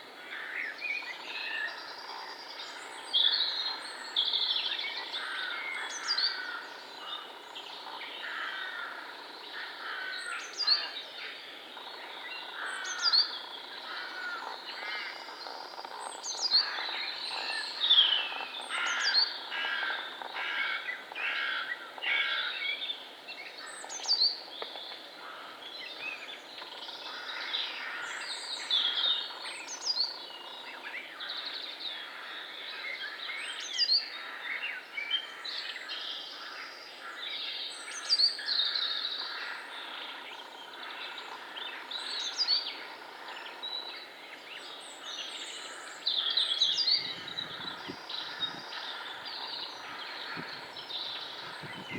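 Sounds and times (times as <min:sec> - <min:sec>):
birds singing in chorus: 0:00.0 - 0:51.9.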